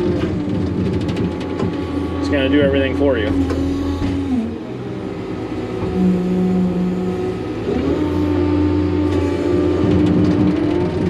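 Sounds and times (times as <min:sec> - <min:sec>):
diesel engine revving up: 0:00.0 - 0:11.0.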